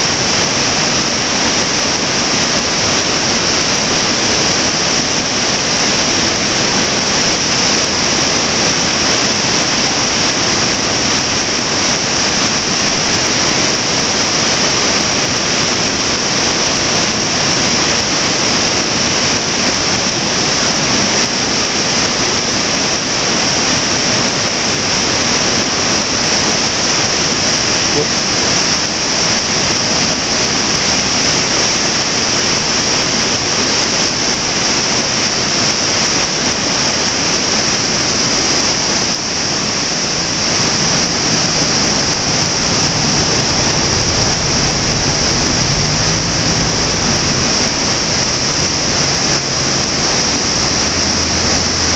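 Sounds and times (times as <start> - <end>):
river rushing: 0.0 - 51.9.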